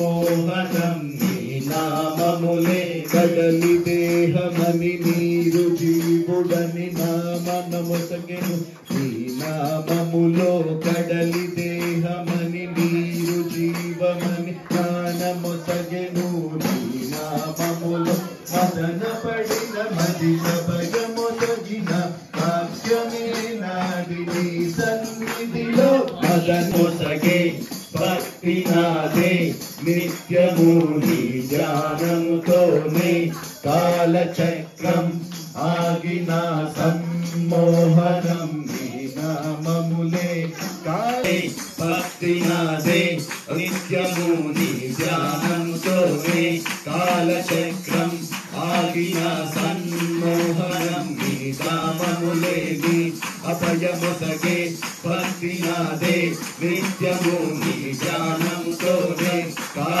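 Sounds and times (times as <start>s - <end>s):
jingling bells: 0.0s - 60.0s
person singing devotional song: 0.0s - 60.0s
tambourine beat: 0.0s - 60.0s.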